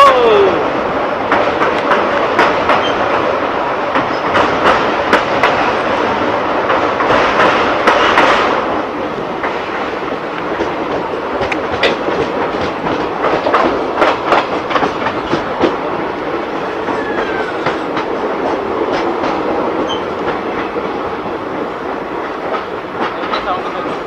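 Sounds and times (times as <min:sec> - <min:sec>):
train coach rushing along track: 0:00.0 - 0:24.0
wheels clacking over rail joints: 0:00.9 - 0:24.0.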